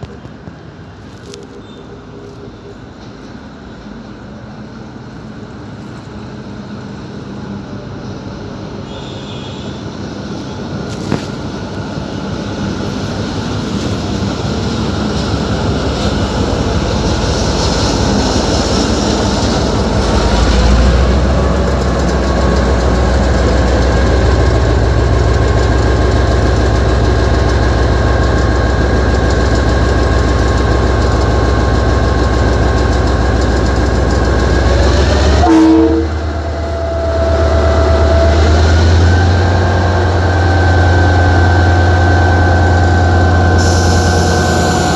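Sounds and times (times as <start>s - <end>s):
train running close by: 0.0s - 44.9s.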